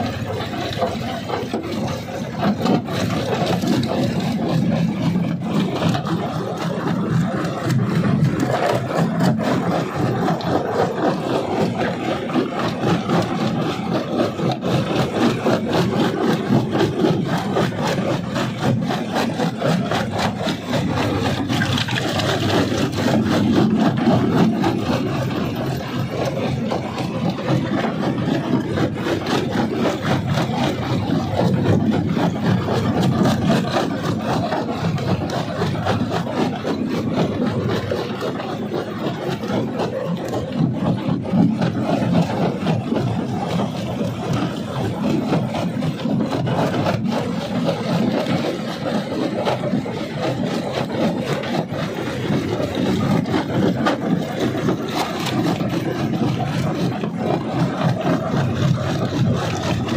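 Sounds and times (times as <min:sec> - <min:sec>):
rock crusher grinding stone: 0:00.0 - 0:59.9.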